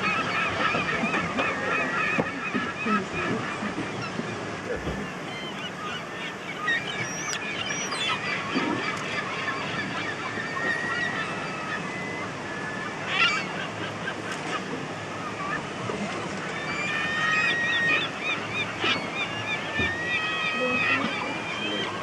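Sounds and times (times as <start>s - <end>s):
gulls squawking: 0.0s - 22.0s.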